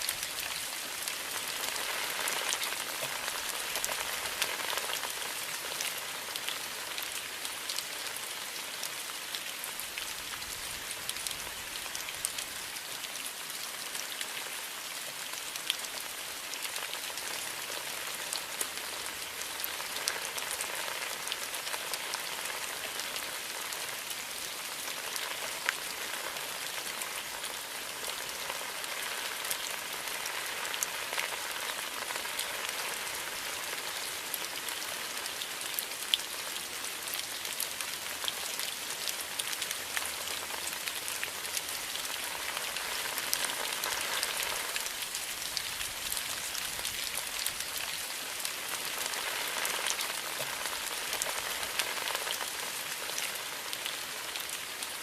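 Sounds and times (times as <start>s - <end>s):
raindrops ticking: 0.0s - 12.5s, 15.3s - 54.9s
rain hissing: 0.0s - 12.8s, 15.6s - 55.0s.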